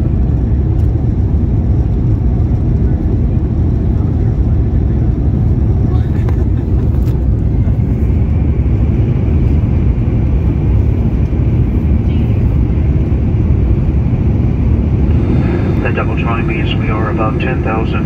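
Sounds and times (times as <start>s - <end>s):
airplane cabin engine and airflow noise: 0.0s - 18.0s.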